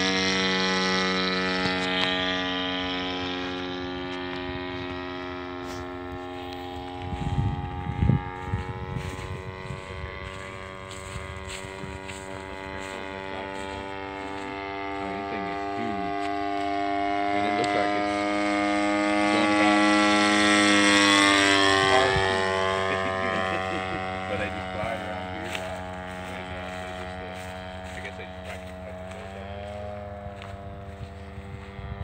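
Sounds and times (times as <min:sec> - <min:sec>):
model airplane engine droning: 0:00.0 - 0:32.0.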